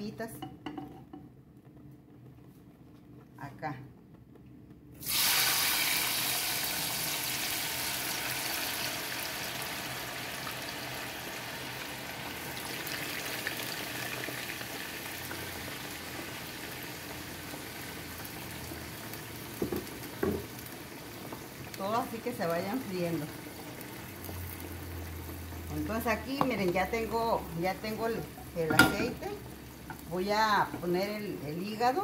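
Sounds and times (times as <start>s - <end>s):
potatoes sizzling in hot oil: 5.0s - 32.0s.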